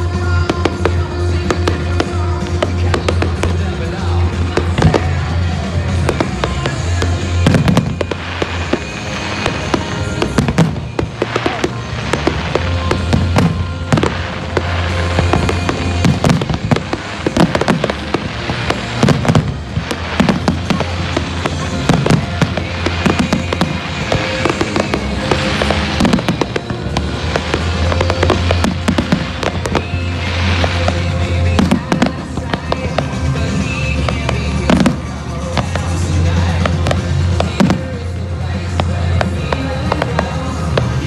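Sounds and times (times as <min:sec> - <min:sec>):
fireworks bursting: 0:00.0 - 0:41.0.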